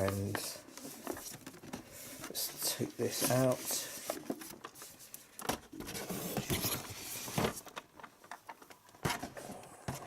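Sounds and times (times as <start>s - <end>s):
cardboard and plastic packaging rustling: 0.0s - 10.0s.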